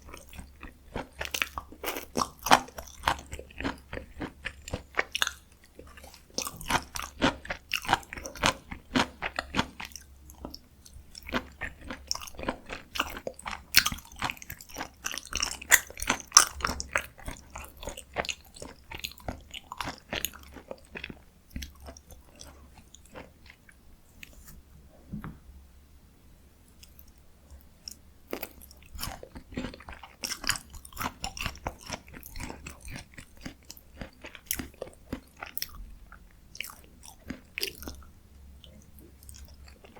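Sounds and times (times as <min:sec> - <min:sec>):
close-miked wet chewing: 0:00.0 - 0:24.3, 0:26.8 - 0:39.9.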